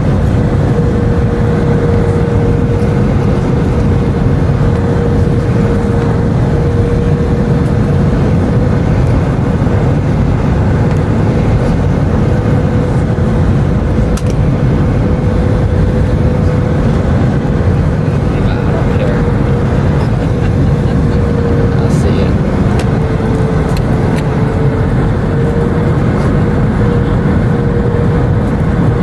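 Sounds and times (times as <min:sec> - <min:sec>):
aircraft cabin engine rumble: 0:00.0 - 0:29.0
steady mid-pitched whine: 0:00.0 - 0:29.0.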